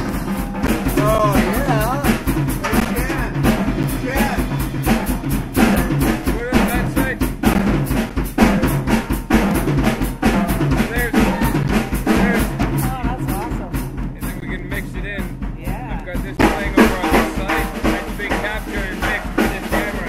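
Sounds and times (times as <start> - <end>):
drum kit strikes: 0.0 - 20.0.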